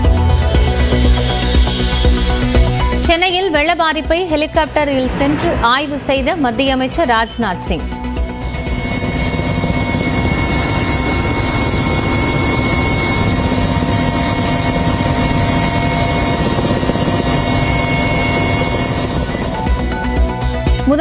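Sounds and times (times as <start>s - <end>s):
helicopter engine whine: 0.0s - 21.0s
helicopter rotor beat: 0.0s - 21.0s.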